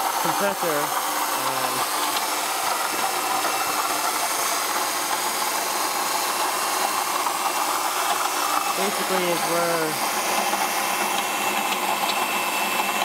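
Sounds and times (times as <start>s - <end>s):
grinding from engine pulleys: 0.0s - 13.0s.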